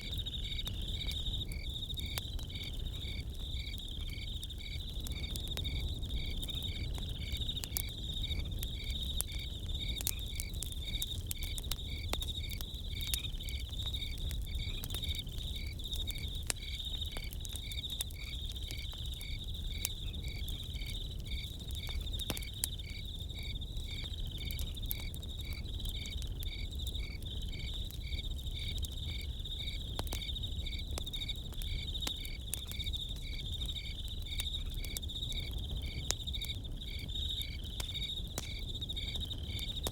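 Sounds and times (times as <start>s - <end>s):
campfire crackles and pops: 0.0s - 39.9s
crickets chirping: 0.0s - 39.9s.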